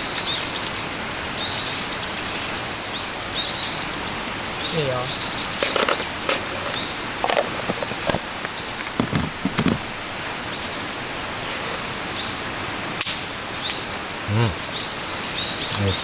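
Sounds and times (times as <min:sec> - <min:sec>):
small birds chirping: 0:00.0 - 0:12.8, 0:13.4 - 0:16.0
steady background hiss: 0:00.0 - 0:16.0.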